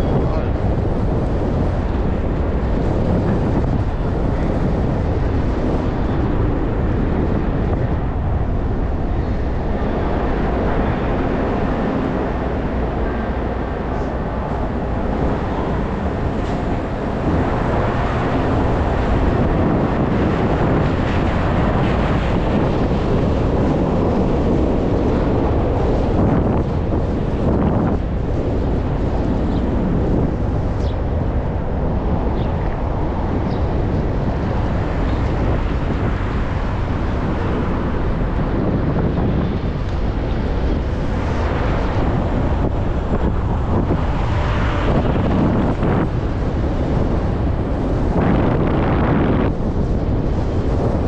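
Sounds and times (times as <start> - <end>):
road noise: 0.0 - 51.0
wind buffeting microphone: 0.0 - 51.0.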